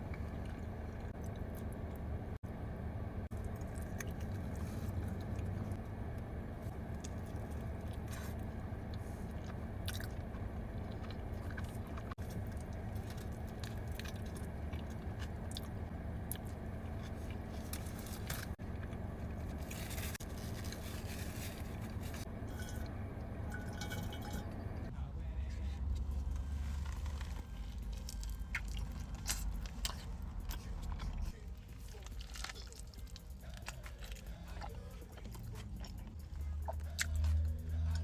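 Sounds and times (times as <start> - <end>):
person chewing food: 0.0 - 2.0, 3.3 - 5.8, 6.9 - 22.9, 26.4 - 38.0
steady low hum: 0.0 - 38.0.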